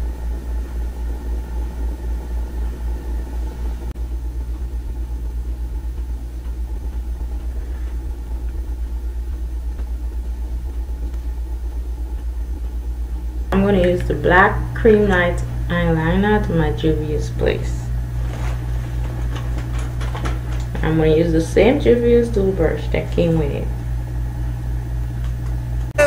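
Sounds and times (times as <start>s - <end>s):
low pulsing rumble: 0.0s - 26.0s.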